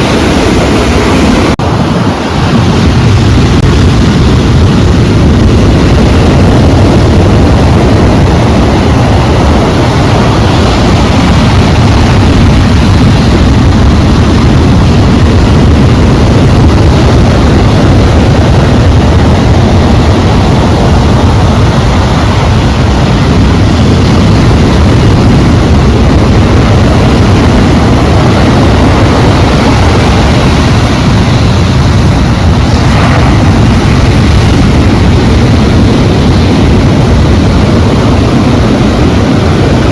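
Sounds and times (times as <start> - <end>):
sea waves roaring: 0.0 - 39.9
wind: 0.0 - 39.9.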